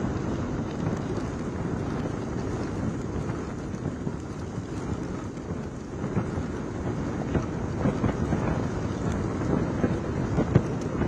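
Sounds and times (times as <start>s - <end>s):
gusty wind buffeting microphone: 0.0s - 11.0s
rain: 0.0s - 11.0s.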